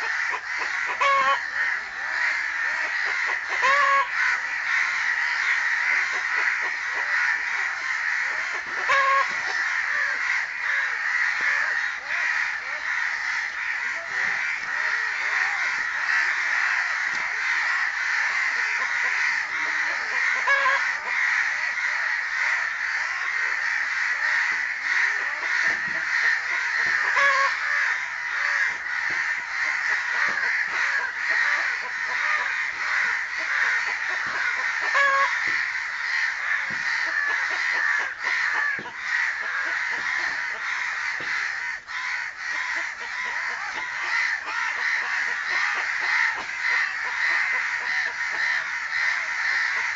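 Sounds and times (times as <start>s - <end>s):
crows cawing: 0.0s - 49.9s.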